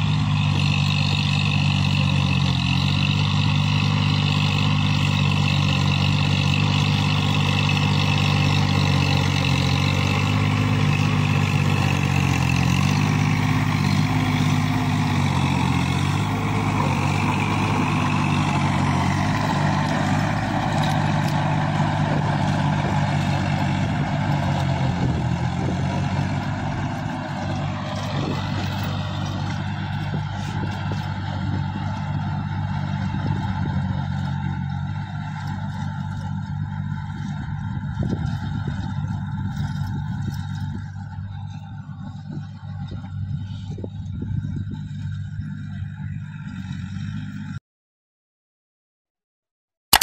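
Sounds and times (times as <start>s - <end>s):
tractor engine running: 0.0s - 47.6s.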